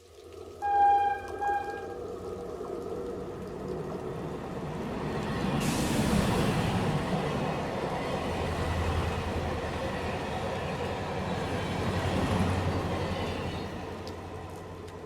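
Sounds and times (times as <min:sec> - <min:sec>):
train rumbling past: 0:00.6 - 0:15.0.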